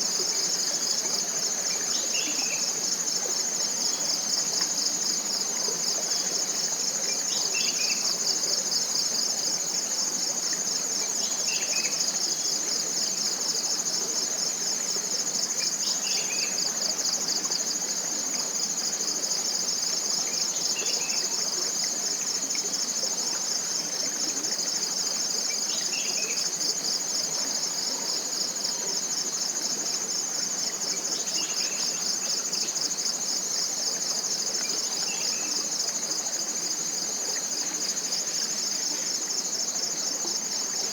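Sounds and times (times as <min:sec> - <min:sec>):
insect chorus trilling: 0:00.0 - 0:40.9.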